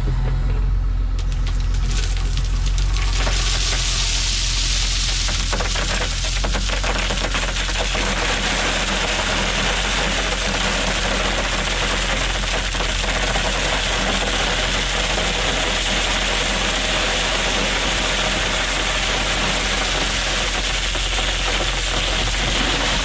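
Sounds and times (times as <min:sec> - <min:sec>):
heavy equipment engine running: 0:00.0 - 0:23.0.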